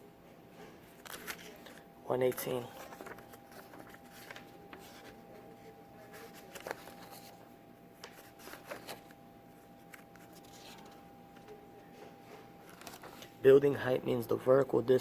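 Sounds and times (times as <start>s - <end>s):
faint steady hum: 0.0s - 15.0s
paper pages rustling: 0.6s - 13.4s.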